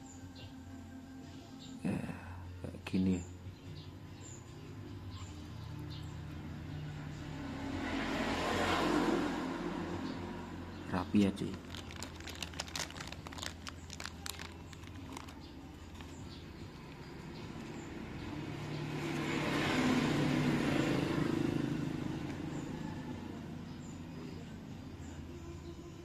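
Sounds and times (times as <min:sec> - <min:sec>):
vehicle passing by: 0:03.7 - 0:26.0.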